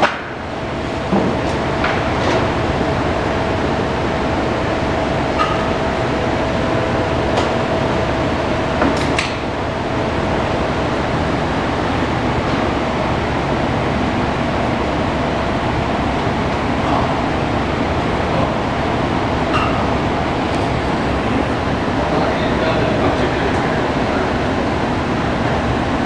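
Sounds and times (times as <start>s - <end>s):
machine fan rushing: 0.0s - 26.0s.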